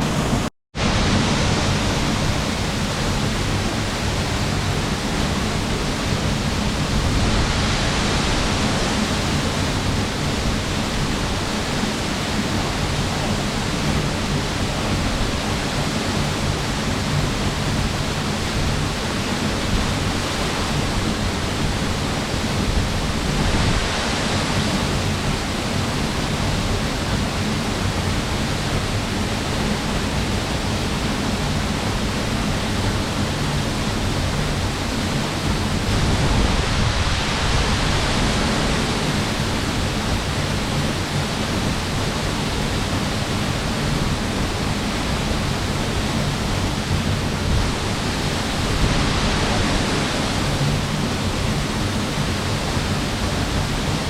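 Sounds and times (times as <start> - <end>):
falling water rushing: 0.0 - 54.0.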